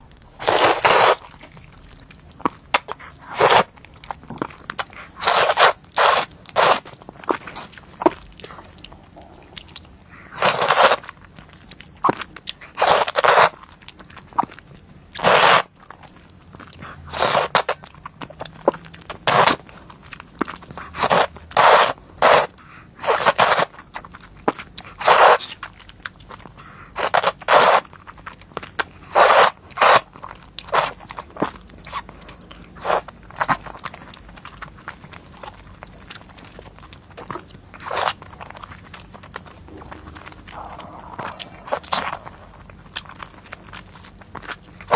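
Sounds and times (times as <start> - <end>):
crunchy food being chewed: 0.0 - 44.9.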